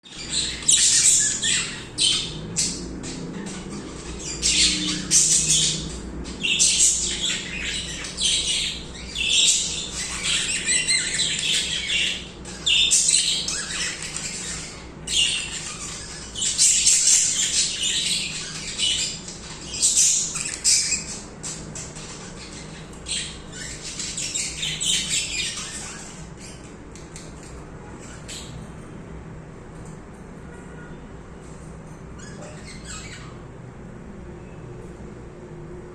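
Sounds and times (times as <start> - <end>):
budgerigars chattering: 0.1 - 28.6, 32.2 - 33.4.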